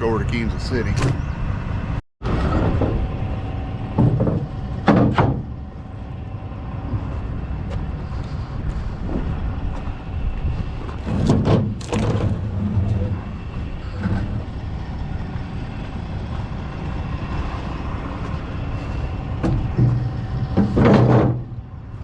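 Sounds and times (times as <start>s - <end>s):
diesel truck engine idling: 3.0s - 11.1s, 11.9s - 22.0s.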